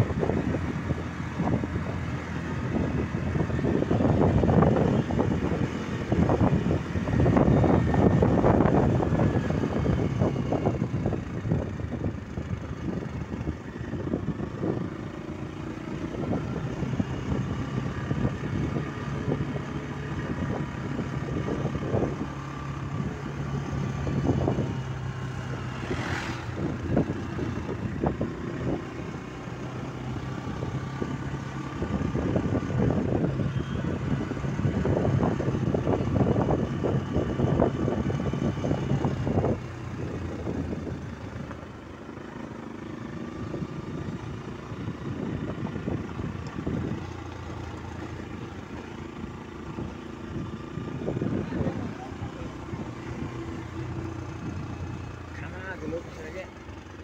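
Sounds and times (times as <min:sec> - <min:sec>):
scooter engine running: 0:00.0 - 0:57.0.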